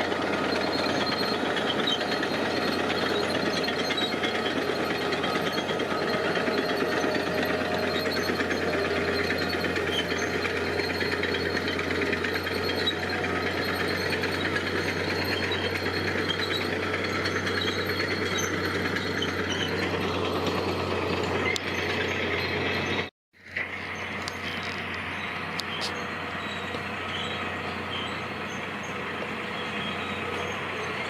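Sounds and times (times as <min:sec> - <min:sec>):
diesel machinery clattering: 0:00.0 - 0:31.0.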